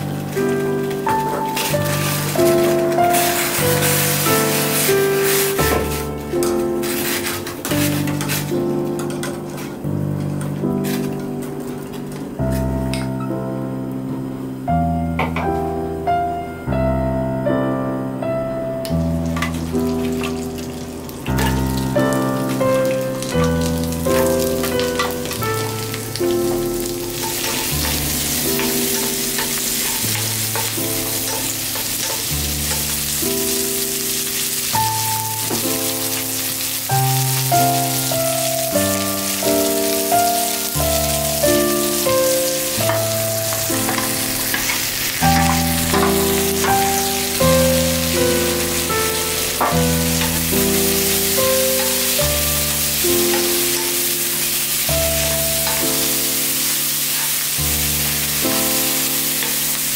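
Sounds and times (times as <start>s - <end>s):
vegetables sizzling in a frying pan: 0.0s - 15.3s, 18.9s - 59.9s
background music: 0.0s - 57.6s.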